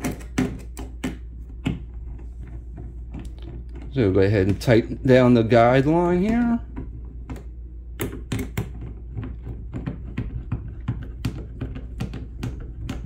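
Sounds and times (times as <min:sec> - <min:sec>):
hands working cord clicking: 0:00.0 - 0:13.0
steady low hum: 0:00.0 - 0:13.0.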